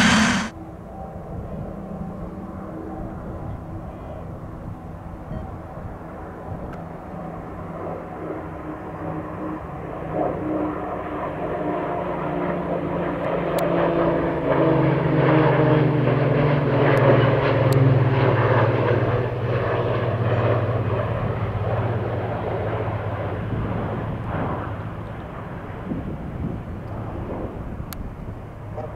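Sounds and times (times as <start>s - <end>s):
propeller aircraft flying past: 0.0s - 28.9s.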